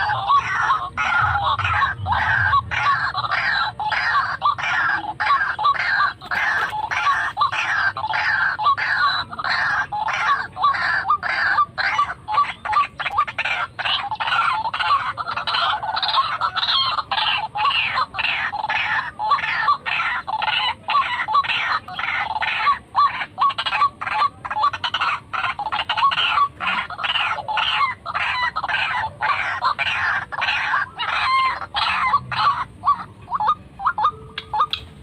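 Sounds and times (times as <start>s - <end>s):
bird calling harsh throaty notes: 0.0s - 35.0s.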